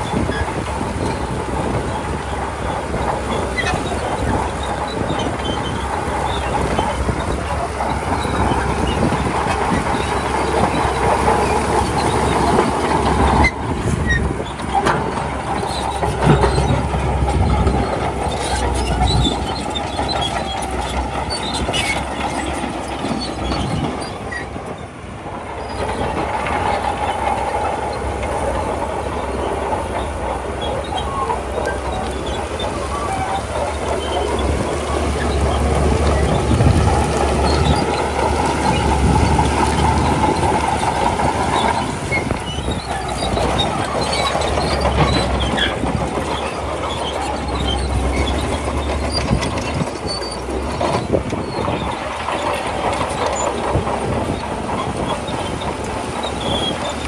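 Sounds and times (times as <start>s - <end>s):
bulldozer engine noise: 0.0s - 57.0s
metallic track clanking and squealing: 0.0s - 57.0s.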